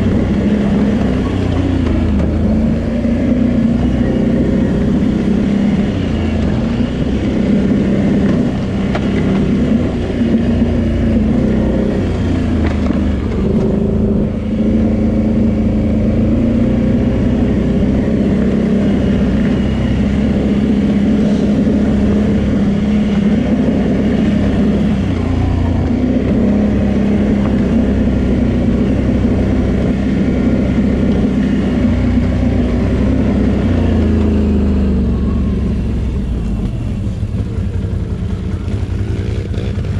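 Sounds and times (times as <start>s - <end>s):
quad engine running: 0.0s - 39.9s.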